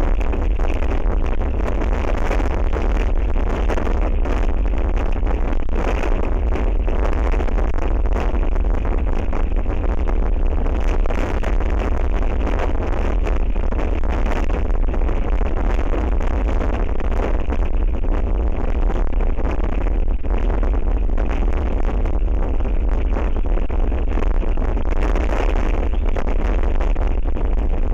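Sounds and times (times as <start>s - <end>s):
strong wind on microphone: 0.0s - 27.9s.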